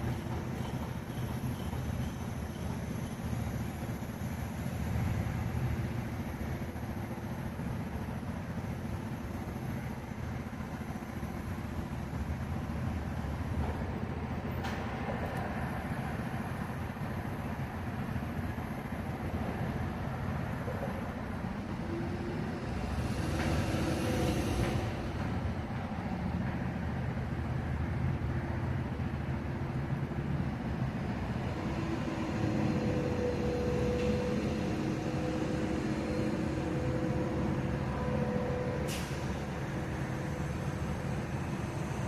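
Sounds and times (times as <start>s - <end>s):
heavy engines rumbling: 0.0s - 42.0s.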